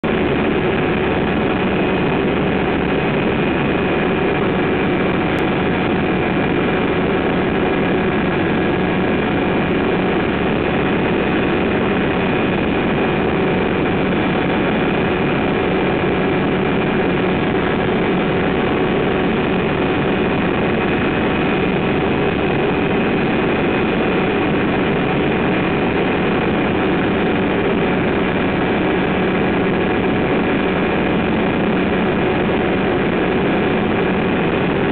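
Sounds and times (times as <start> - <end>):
light aircraft engine drone: 0.0 - 34.9.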